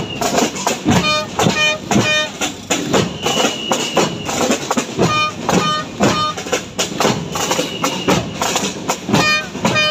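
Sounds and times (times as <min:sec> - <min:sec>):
frame drums beaten: 0:00.0 - 0:09.9.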